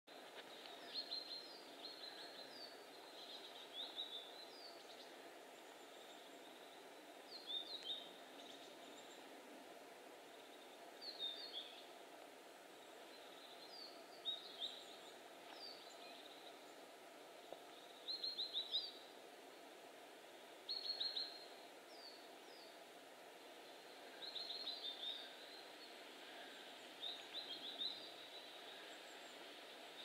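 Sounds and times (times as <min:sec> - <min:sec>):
faint steady hiss: 0:00.1 - 0:30.0
small birds chirping: 0:00.1 - 0:30.0.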